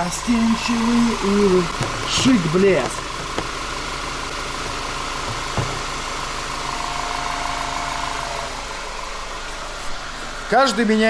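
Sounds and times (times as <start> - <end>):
car engine idling: 0.0 - 11.0
faint steady whine: 0.0 - 11.0.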